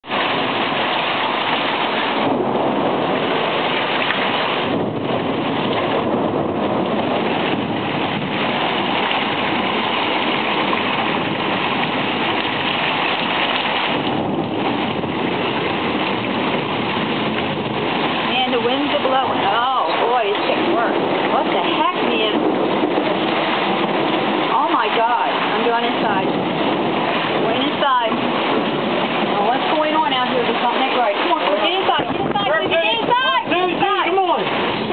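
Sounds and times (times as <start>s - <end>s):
heavy rain pouring on pavement: 0.0s - 34.9s.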